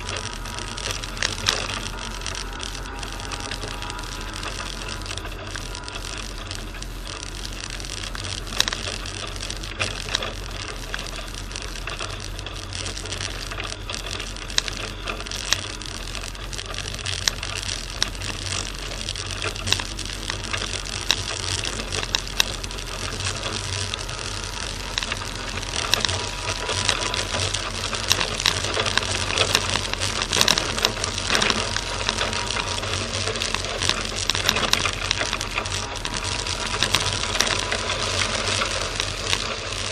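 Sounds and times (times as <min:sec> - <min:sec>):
car engine hum: 0:00.0 - 0:39.9
driving noise: 0:00.0 - 0:39.9
sharp clicks and rattles: 0:00.0 - 0:39.9.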